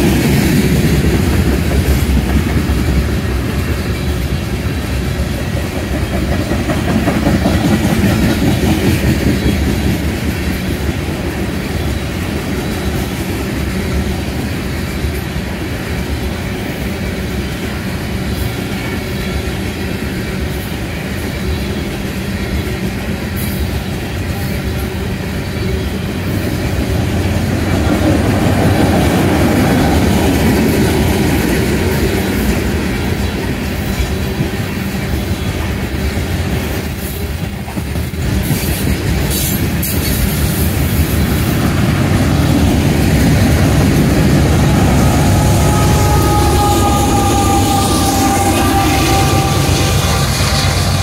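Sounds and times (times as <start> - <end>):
diesel locomotive whining tones: 0.0 - 51.0
train wheels rumbling on rails: 0.0 - 51.0.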